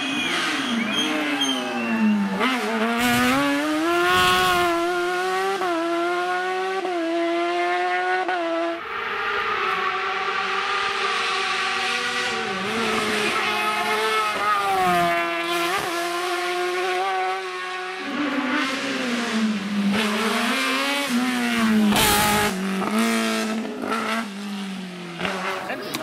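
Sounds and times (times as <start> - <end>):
racing car engines at full throttle: 0.0 - 26.0.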